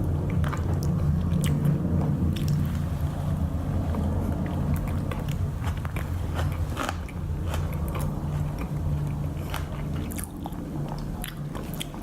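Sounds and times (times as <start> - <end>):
person chewing crunchy food: 0.0 - 12.0
steady low hum: 0.0 - 12.0.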